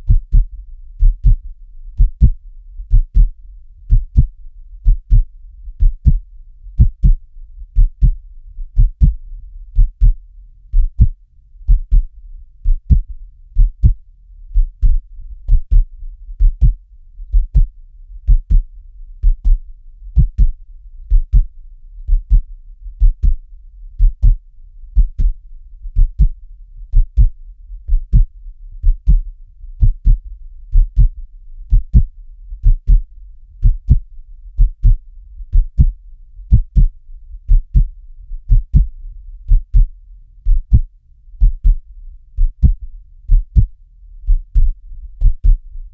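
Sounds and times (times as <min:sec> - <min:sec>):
heartbeat thumps: 0:00.0 - 0:24.4, 0:25.0 - 0:41.8, 0:42.4 - 0:45.7
faint low rumble: 0:00.0 - 0:45.9.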